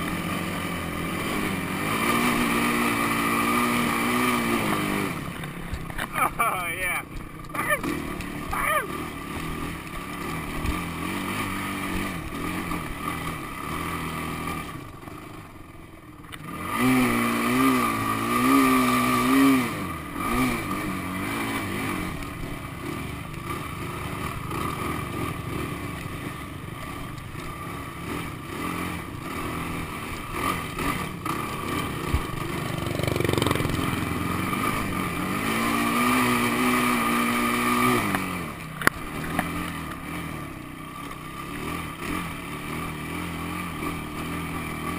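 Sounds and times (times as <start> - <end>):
quad engine revving: 0.0 - 44.9.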